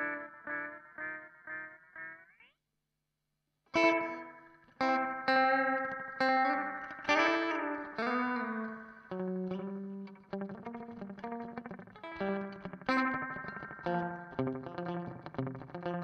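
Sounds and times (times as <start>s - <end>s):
electric guitar with delay: 0.0s - 2.4s, 3.8s - 16.0s.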